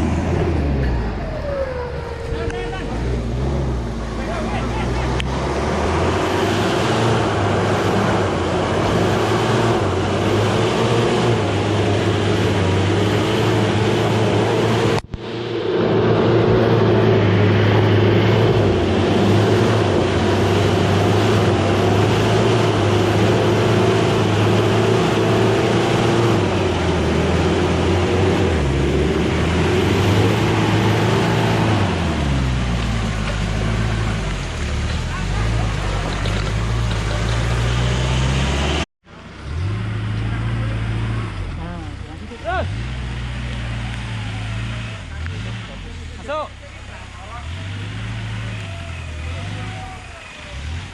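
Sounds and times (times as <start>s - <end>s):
off-road engine running hard: 0.0s - 50.9s.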